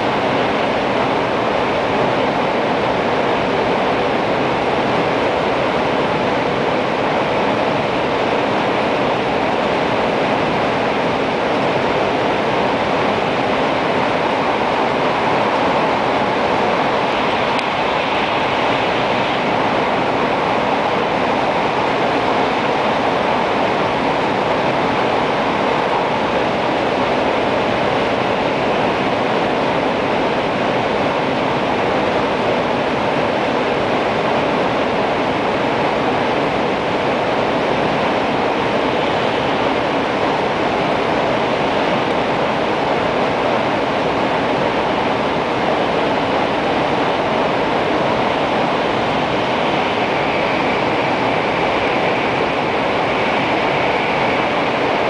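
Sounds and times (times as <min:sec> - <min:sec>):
train interior running noise: 0:00.0 - 0:55.0.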